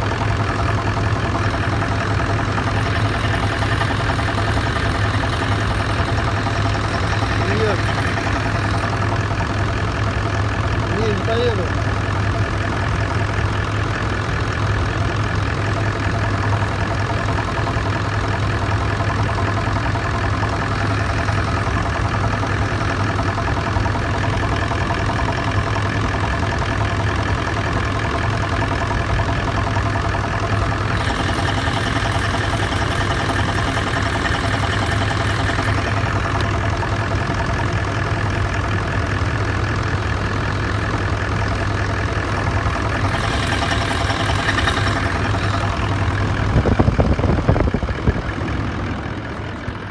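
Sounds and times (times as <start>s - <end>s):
diesel engine idling: 0.0s - 49.9s
engine knocking: 0.0s - 49.9s.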